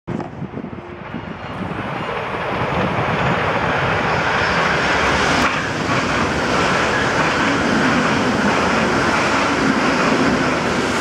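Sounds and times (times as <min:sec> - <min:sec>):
train approaching at speed: 0:00.1 - 0:11.0.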